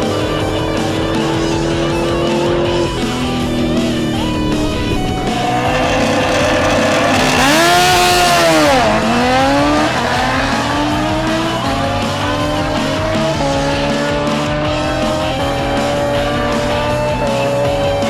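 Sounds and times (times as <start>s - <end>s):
motorcycle engines revving: 0.0s - 18.0s
music: 0.0s - 18.0s.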